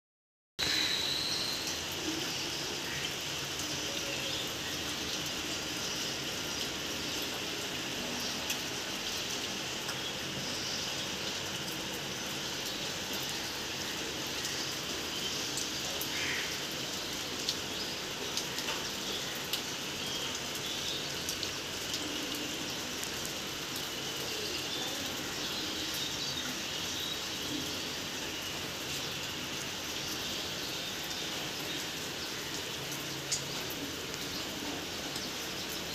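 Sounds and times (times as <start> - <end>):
steady rainfall: 0.6 - 35.9
water dripping: 0.6 - 35.9.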